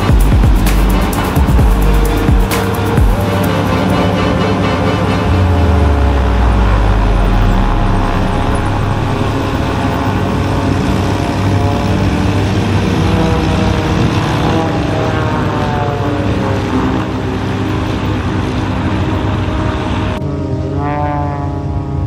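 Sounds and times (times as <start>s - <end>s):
propeller plane engines droning: 0.0s - 22.0s.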